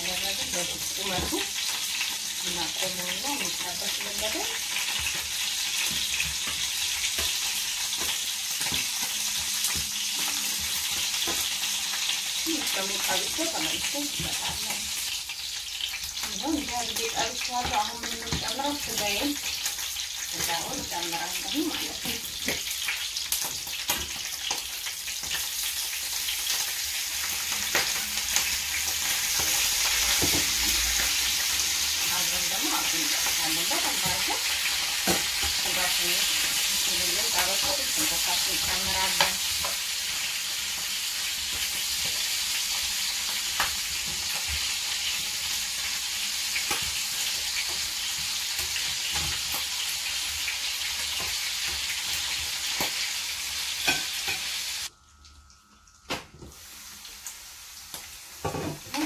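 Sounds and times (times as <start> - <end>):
meat sizzling in a frying pan: 0.0 - 55.0, 56.1 - 59.0.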